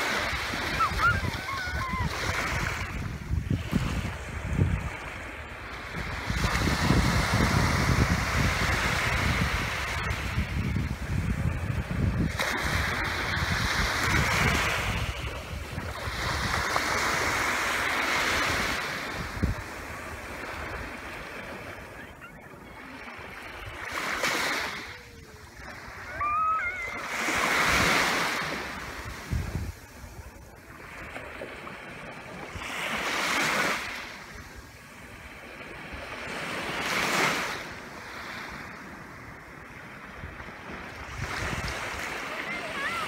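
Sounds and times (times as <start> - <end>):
wind buffeting microphone: 0.0 - 32.6, 38.5 - 43.0
small waves washing onto beach: 0.0 - 43.0.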